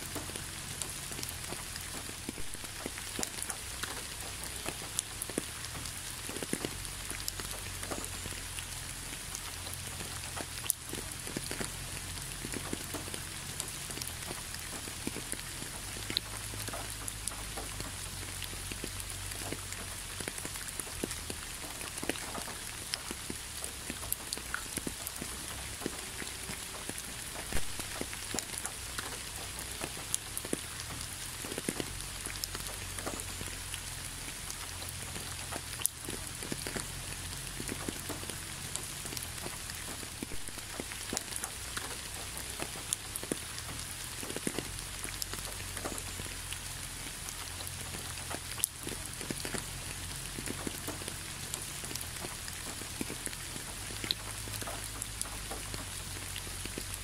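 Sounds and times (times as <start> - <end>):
steady rain: 0.0 - 57.0
drops ticking on a surface: 0.1 - 57.0.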